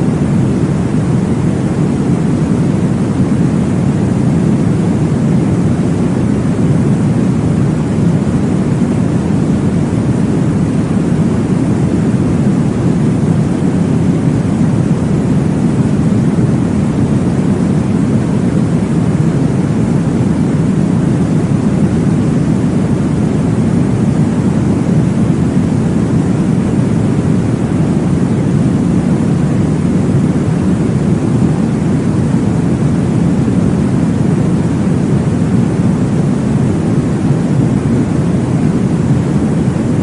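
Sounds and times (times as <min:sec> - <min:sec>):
deep whooshing white noise: 0:00.0 - 0:40.0.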